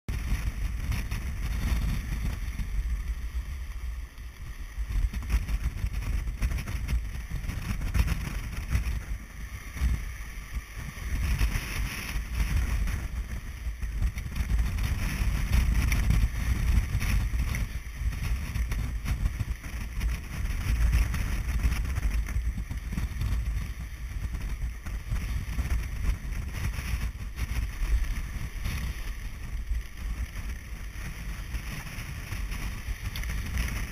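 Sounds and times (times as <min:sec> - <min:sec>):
strong wind buffeting microphone: 0:00.1 - 0:33.9.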